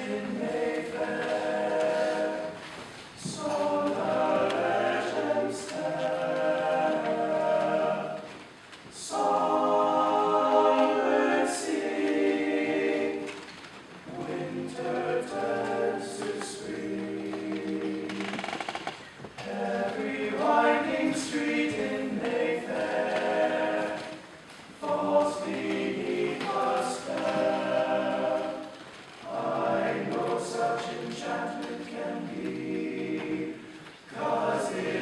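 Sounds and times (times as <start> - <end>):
male vocal group singing in harmony: 0.0 - 18.6, 19.4 - 35.0.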